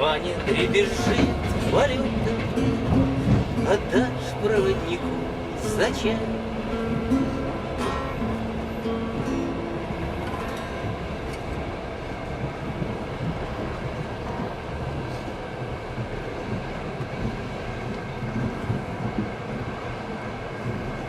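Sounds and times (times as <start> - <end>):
moving train rumbling: 0.0 - 21.0.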